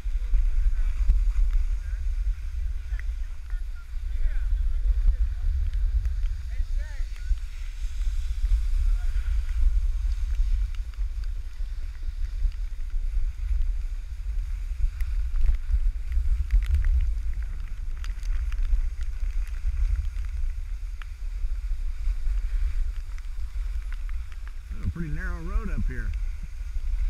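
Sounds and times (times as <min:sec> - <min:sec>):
skis scraping on snow: 0:00.0 - 0:27.0
wind buffeting microphone: 0:00.0 - 0:27.0.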